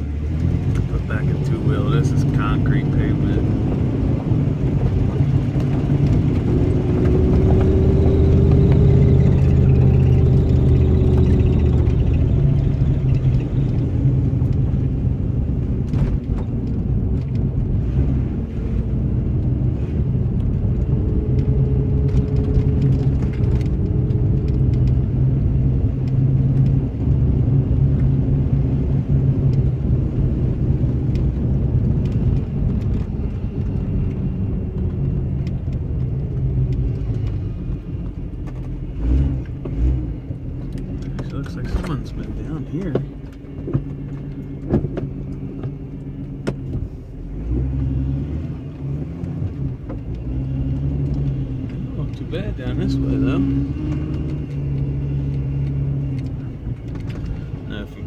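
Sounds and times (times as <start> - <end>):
knocks and rattles over bumps: 0.0 - 17.8, 20.3 - 58.0
car engine low rumble: 0.0 - 58.0.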